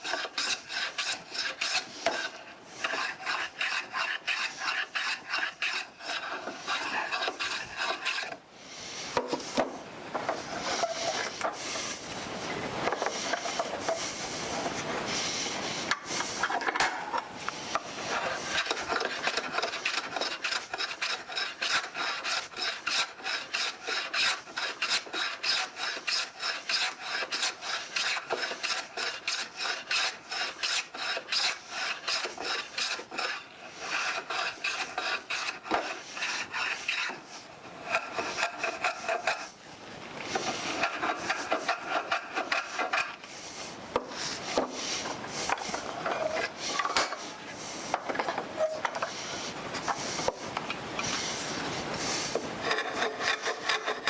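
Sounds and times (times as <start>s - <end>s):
hand plane shaving wood: 0.0s - 54.0s.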